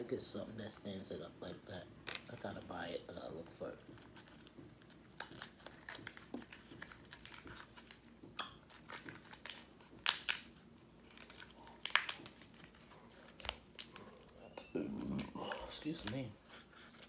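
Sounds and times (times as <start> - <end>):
chewing and crunching food: 3.2 - 17.0.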